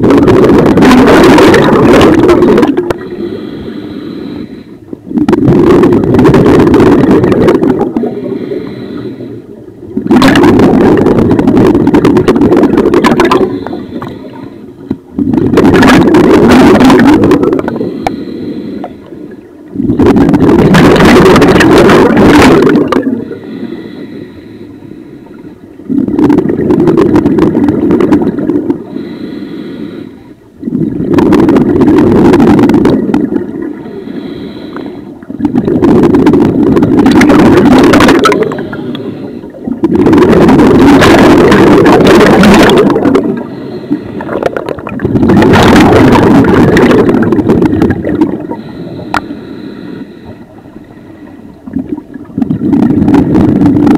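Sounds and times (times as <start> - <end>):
exhaled bubbles rushing underwater: 0.0 - 3.9, 4.5 - 24.2, 24.9 - 29.4, 30.5 - 53.9
inhaling through a regulator: 0.2 - 53.7.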